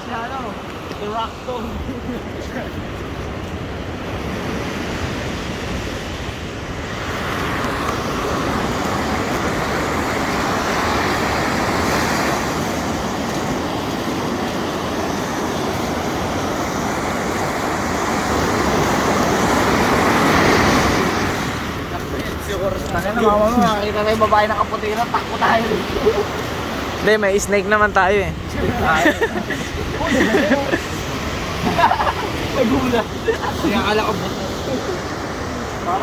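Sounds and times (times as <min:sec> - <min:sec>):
surf on rocky shore: 0:00.0 - 0:36.0
wind on microphone: 0:01.5 - 0:36.0.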